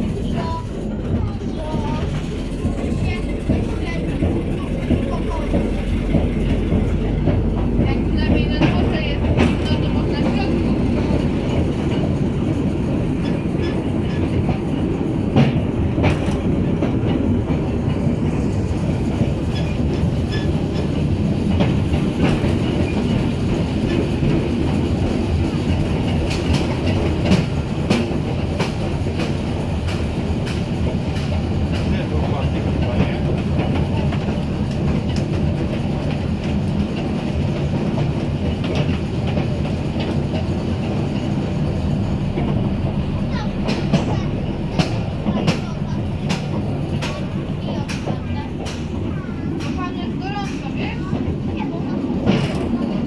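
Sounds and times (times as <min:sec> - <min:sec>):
train wheels rumbling: 0:00.0 - 0:53.0
wheels clicking over rail joints: 0:00.0 - 0:53.0.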